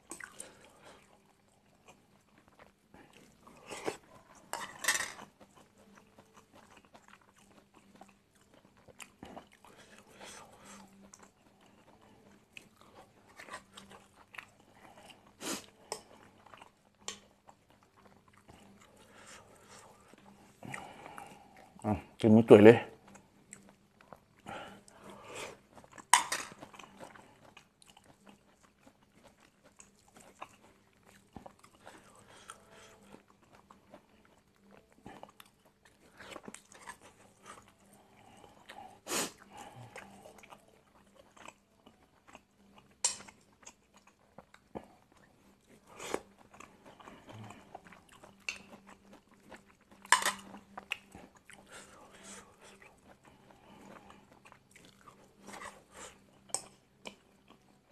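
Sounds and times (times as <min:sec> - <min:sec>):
chewing and eating: 0:00.0 - 0:57.9.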